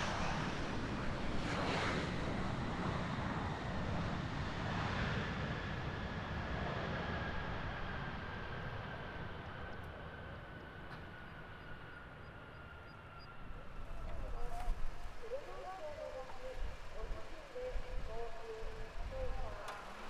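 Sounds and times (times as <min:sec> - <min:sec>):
jet engines rushing and whining: 0:00.0 - 0:20.0.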